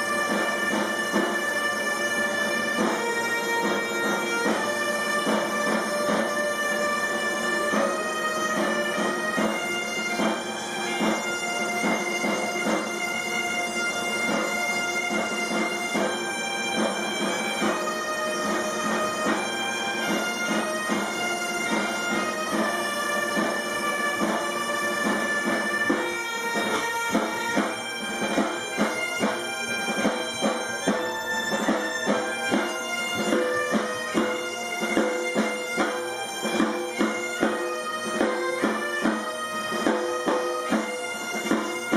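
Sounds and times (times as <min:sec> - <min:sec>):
bagpipes playing a tune: 0:00.0 - 0:41.9
side drum beating: 0:00.0 - 0:41.9.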